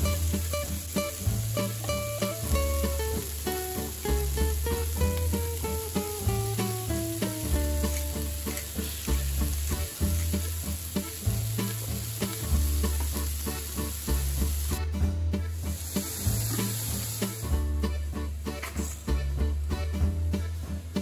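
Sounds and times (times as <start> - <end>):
food sizzling in a frying pan: 0.0 - 14.8, 15.6 - 17.8
background music with plucked guitar: 0.0 - 21.0.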